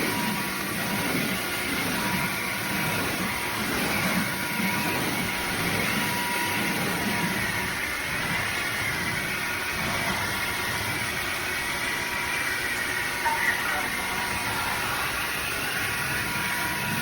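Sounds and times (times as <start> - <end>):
vacuum mop motor whine: 0.0 - 17.0.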